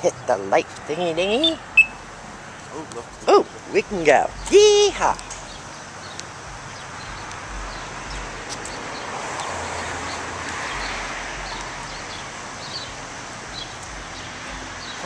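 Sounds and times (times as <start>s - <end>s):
vehicle passing: 0.0s - 15.0s
traffic hiss: 0.6s - 15.0s.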